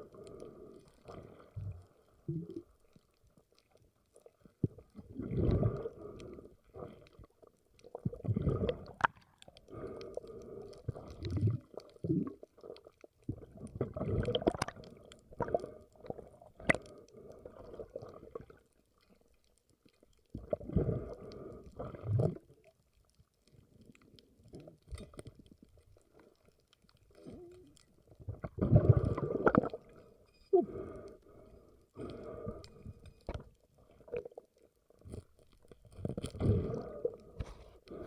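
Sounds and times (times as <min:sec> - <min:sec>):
muffled underwater sloshing and bubbling: 0:00.0 - 0:38.0.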